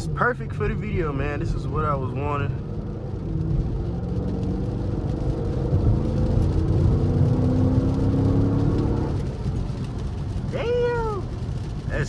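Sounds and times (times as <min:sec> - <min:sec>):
car engine deep exhaust rumble: 0:00.0 - 0:12.0.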